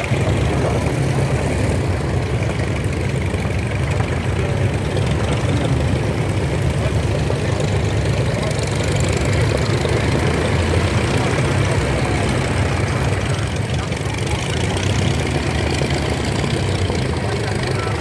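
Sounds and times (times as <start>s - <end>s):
propeller plane engine idling: 0.0s - 18.0s.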